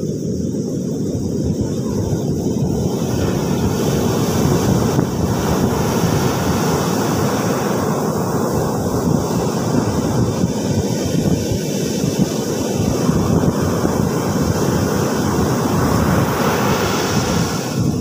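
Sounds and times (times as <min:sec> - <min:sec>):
ocean surf breaking on beach: 0:00.0 - 0:18.0
wind buffeting microphone: 0:00.0 - 0:18.0.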